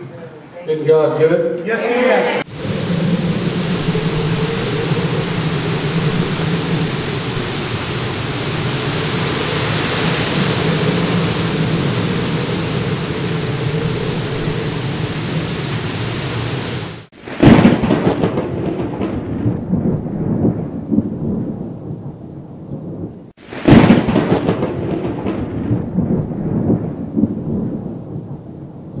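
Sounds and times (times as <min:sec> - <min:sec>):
steady rain hiss: 0:02.4 - 0:29.0
thunderclaps with rolling rumble: 0:02.5 - 0:15.6, 0:17.2 - 0:29.0.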